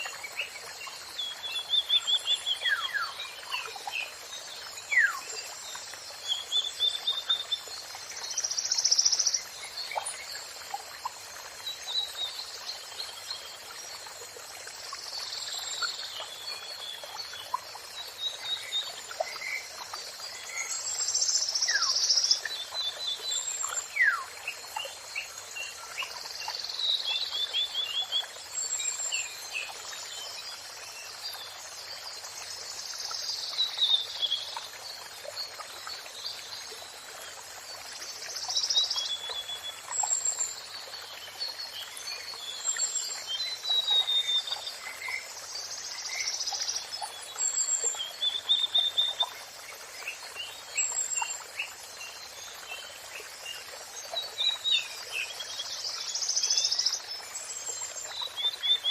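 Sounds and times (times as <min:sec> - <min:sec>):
songbirds singing: 0:00.0 - 0:14.0, 0:14.8 - 0:58.9
running water hiss: 0:00.0 - 0:58.9.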